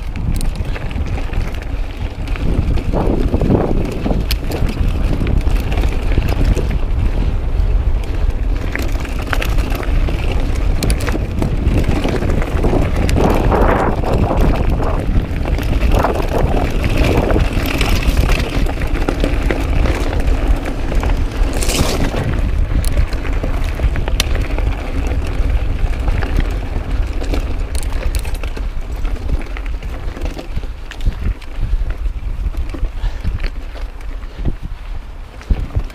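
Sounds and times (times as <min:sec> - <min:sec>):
bike rattling: 0:00.0 - 0:35.9
tyres on loose gravel: 0:00.0 - 0:35.9
wind buffeting microphone: 0:00.0 - 0:35.9.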